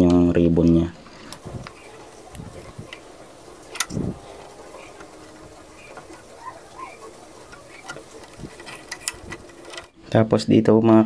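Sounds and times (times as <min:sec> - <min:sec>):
faint ticks: 0:00.0 - 0:10.0.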